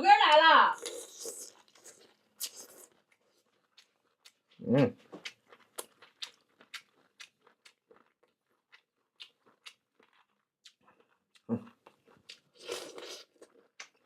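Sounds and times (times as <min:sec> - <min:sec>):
person chewing and crunching: 0:00.8 - 0:14.0.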